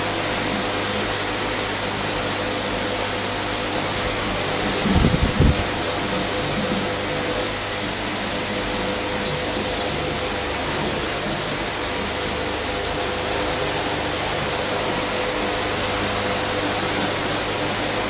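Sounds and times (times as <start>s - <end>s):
low motor hum: 0.0s - 18.0s
water rushing and splashing: 0.0s - 18.0s.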